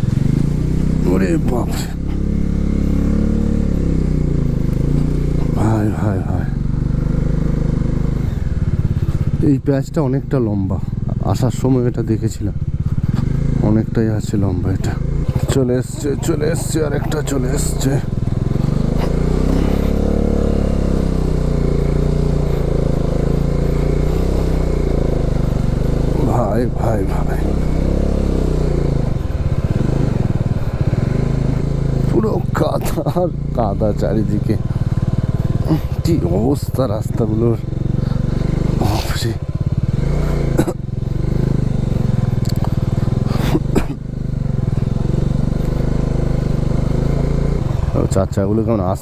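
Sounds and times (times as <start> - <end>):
motorcycle engine under load: 0.0 - 49.0.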